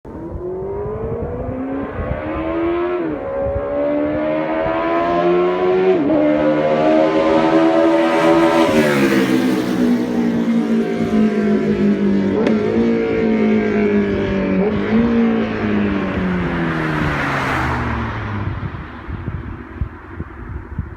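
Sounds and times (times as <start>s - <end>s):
motorcycle engine accelerating: 0.1s - 20.9s.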